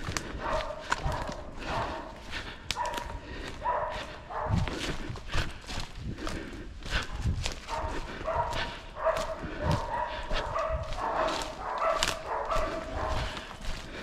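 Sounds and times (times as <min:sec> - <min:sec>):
footsteps in dry leaves: 0:00.0 - 0:14.0
hounds barking and baying: 0:00.0 - 0:14.0.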